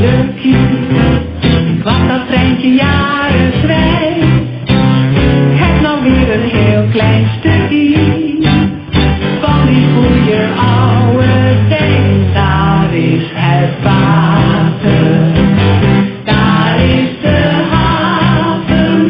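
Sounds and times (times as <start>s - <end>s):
song sung to guitar: 0.0s - 19.0s.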